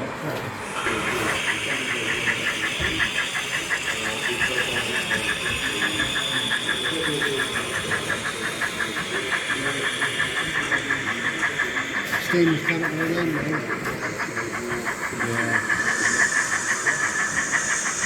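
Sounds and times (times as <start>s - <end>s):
model steam locomotive chuffing: 0.0s - 18.0s.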